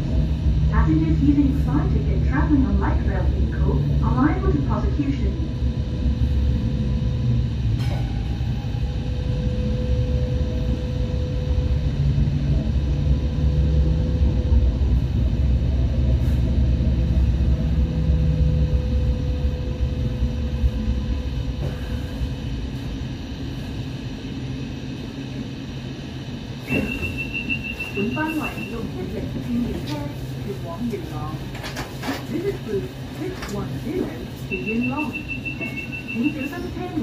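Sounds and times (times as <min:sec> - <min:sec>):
rail car rumbling on track: 0:00.0 - 0:37.0.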